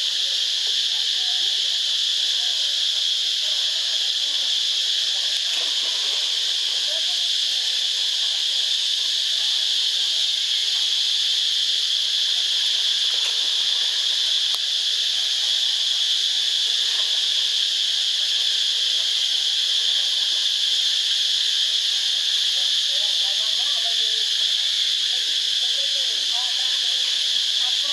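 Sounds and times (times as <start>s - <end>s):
insect chorus droning: 0.0s - 27.9s.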